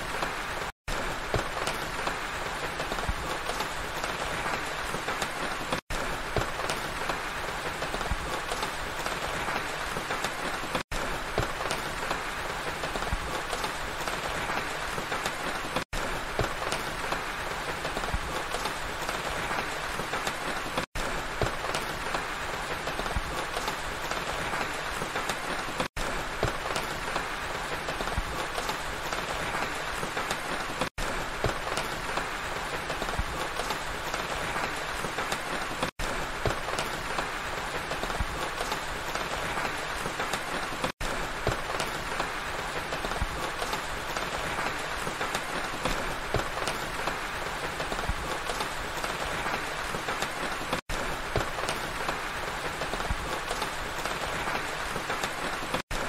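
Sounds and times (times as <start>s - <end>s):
rain falling on pine trees: 0.0s - 56.0s.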